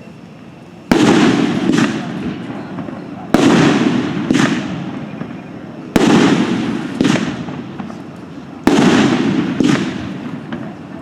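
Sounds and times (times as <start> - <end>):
faint firework crackles: 0.0 - 11.0
firework cake bangs: 0.9 - 11.0.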